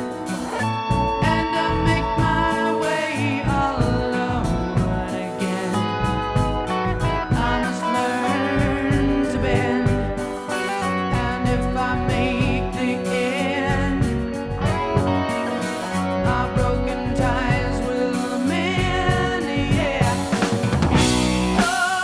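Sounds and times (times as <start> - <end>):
rock ballad by full band: 0.0 - 22.0.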